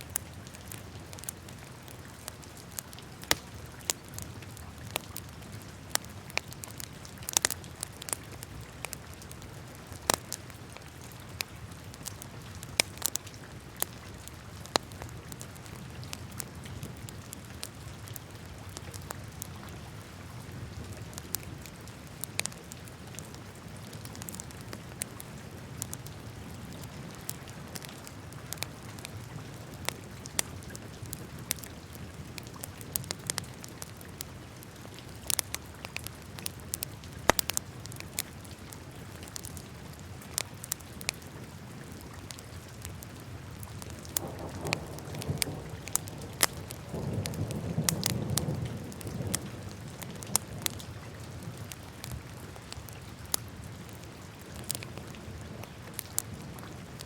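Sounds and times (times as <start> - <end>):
wood fire crackling and popping: 0.0 - 20.0, 21.0 - 57.0
low rumble of flames: 0.0 - 57.0.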